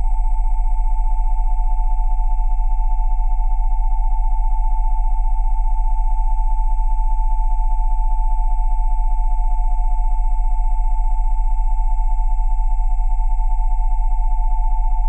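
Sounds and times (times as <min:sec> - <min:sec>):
synthesized sine tone chord: 0:00.0 - 0:15.0.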